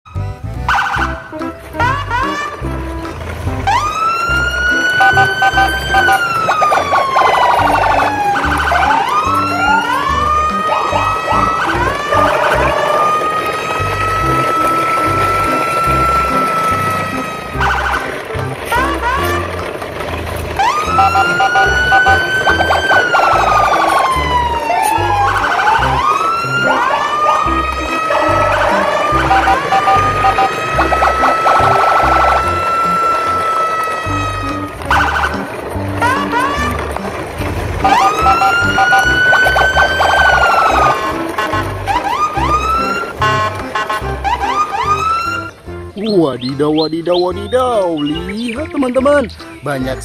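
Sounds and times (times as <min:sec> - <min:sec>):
siren wailing: 0:00.7 - 0:02.7, 0:03.6 - 0:19.8, 0:20.5 - 0:45.6.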